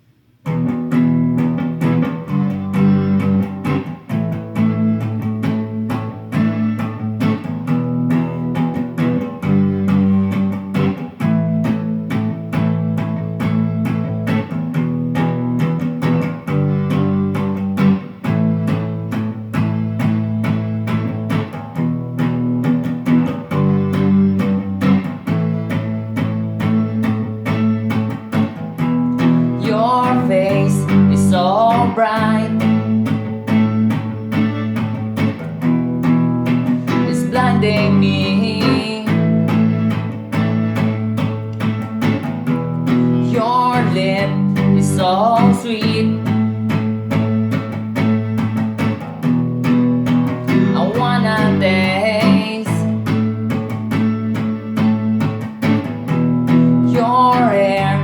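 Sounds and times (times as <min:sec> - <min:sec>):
guitar playing: 0:00.0 - 0:58.0.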